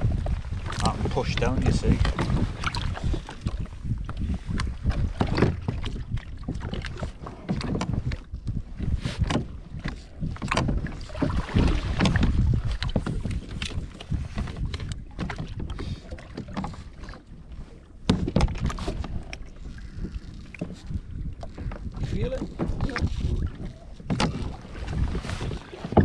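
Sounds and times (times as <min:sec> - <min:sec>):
paddle knocking on plastic hull: 0:00.0 - 0:26.0
wind buffeting microphone: 0:00.0 - 0:26.0.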